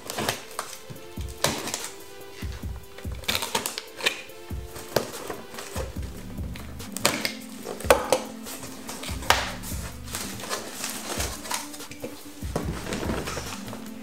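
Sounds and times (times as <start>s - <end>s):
knife slitting packing tape: 0.0s - 5.9s, 6.6s - 14.0s
cardboard flaps rustling: 0.0s - 14.0s.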